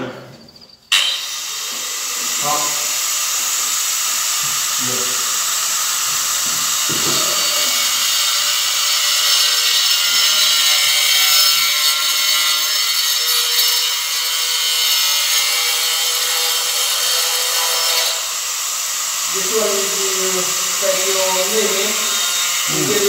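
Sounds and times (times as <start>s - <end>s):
power tool whirring: 0.9s - 23.0s.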